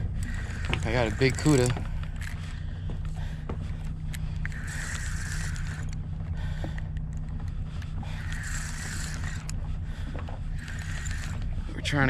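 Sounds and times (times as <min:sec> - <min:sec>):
boat motor humming: 0:00.0 - 0:12.0
fishing reel buzzing: 0:00.0 - 0:12.0.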